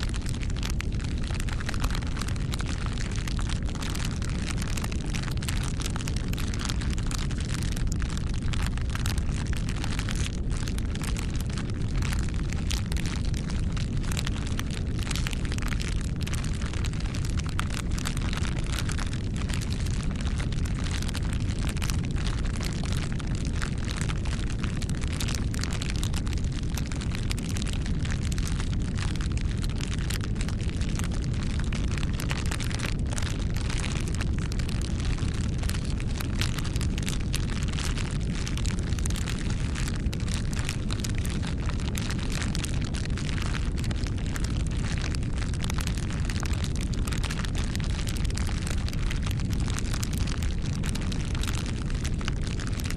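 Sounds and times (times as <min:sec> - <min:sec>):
rush of flames: 0:00.0 - 0:52.9
wood crackling and popping: 0:00.0 - 0:52.9.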